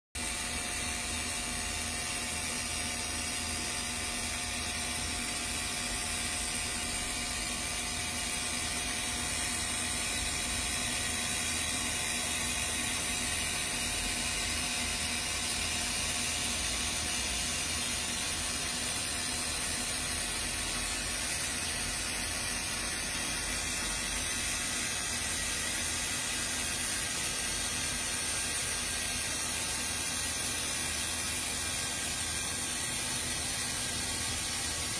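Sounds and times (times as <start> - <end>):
laser marking machine whirring: 0.2 - 34.9.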